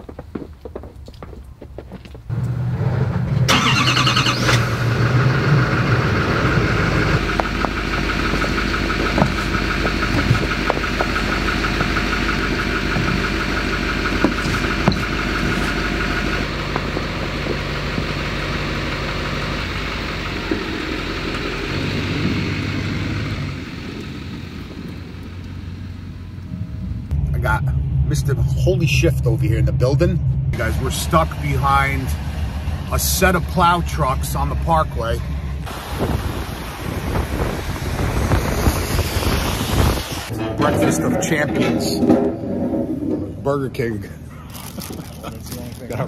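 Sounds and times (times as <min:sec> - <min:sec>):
vehicle engine starting and running: 0:02.3 - 0:46.0.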